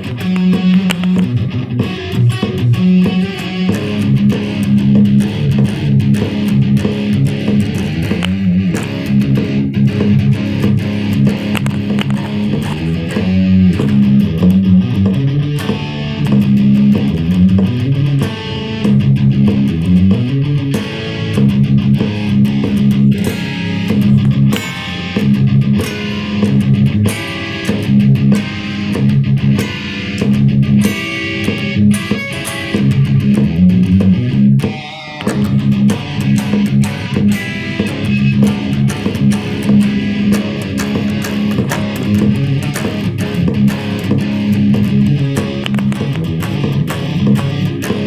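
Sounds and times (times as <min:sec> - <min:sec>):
distorted electric guitar riff: 0:00.0 - 0:48.0.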